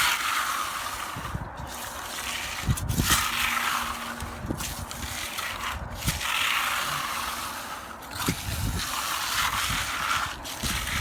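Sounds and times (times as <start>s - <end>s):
trowel scraping wet concrete: 0.0s - 11.0s.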